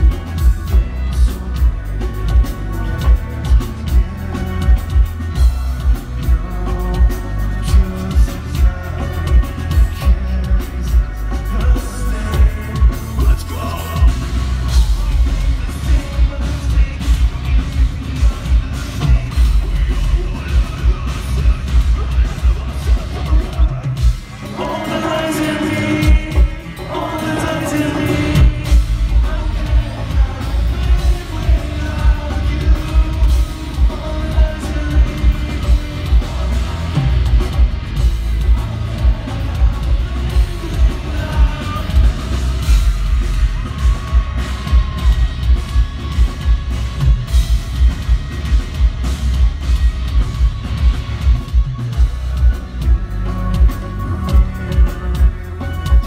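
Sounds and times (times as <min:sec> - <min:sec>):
distorted electric guitars: 0:00.0 - 0:56.0
drum kit heavy beat: 0:00.0 - 0:56.0
person singing lead vocals: 0:00.0 - 0:56.0.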